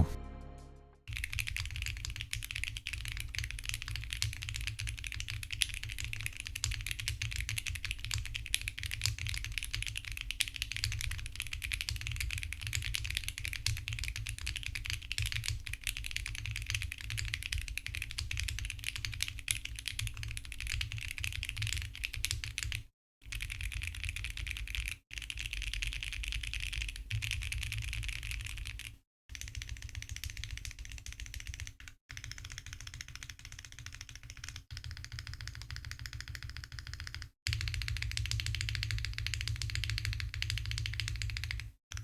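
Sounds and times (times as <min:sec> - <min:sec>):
typing on mechanical keyboard: 0:01.1 - 0:42.0.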